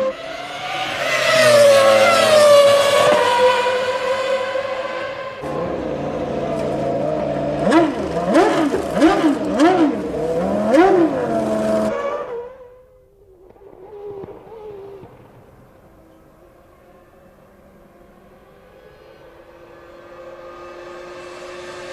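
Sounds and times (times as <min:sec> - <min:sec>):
race car engine at high revs: 0:00.0 - 0:12.7, 0:16.0 - 0:21.9
faint race car engine: 0:00.0 - 0:21.9.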